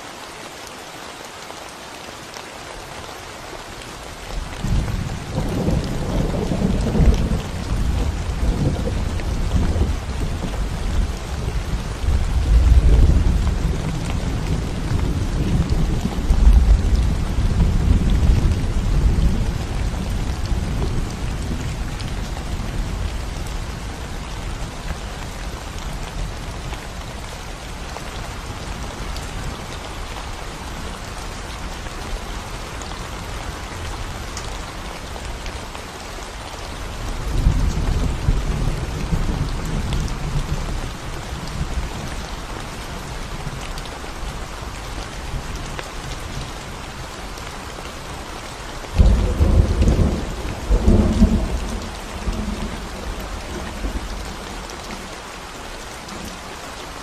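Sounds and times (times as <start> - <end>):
rain on concrete road: 0.0 - 57.0.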